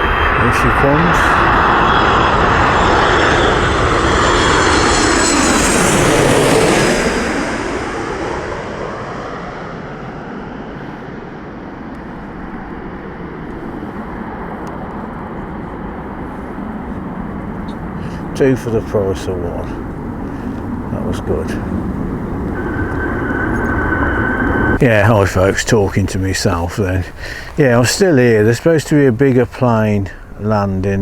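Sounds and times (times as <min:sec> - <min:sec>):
jet airliner engine roar: 0:00.0 - 0:31.0.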